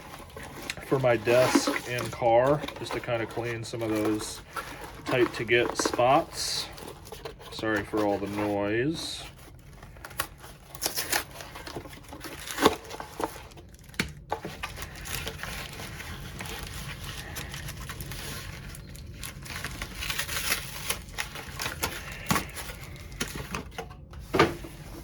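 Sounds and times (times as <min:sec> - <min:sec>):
plastic and cardboard crinkling: 0:00.0 - 0:25.0.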